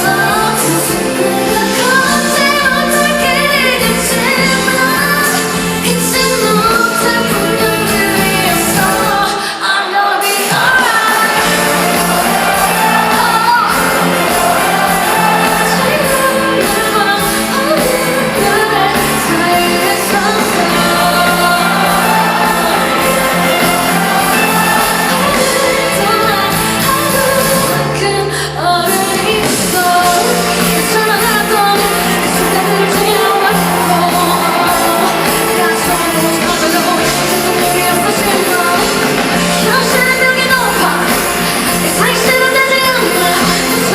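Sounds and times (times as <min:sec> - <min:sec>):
backing band playing: 0:00.0 - 0:09.5, 0:10.2 - 0:43.9
woman singing pop song: 0:00.0 - 0:43.9.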